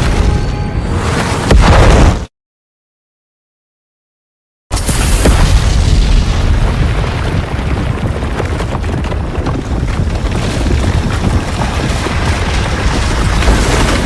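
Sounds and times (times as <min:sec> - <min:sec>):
heavy destruction rumble with crackling: 0:00.0 - 0:02.3, 0:04.8 - 0:14.0.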